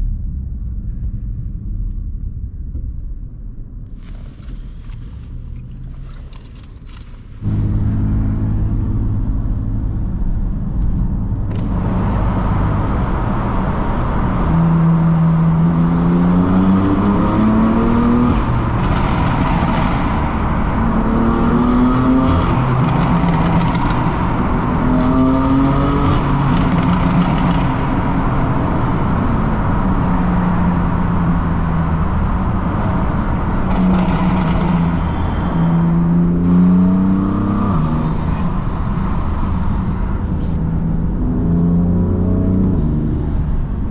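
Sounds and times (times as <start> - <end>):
car engine accelerating in tunnel: 0.0 - 43.9.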